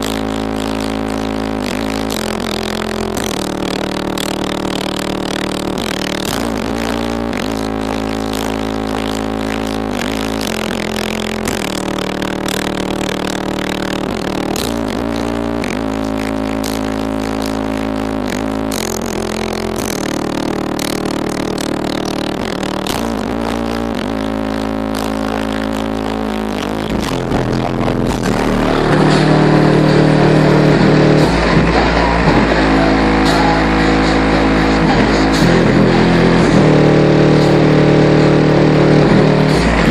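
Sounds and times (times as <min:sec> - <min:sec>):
bass-heavy music from car speakers: 0:00.0 - 0:39.9
buzzing and rattling: 0:00.0 - 0:39.9.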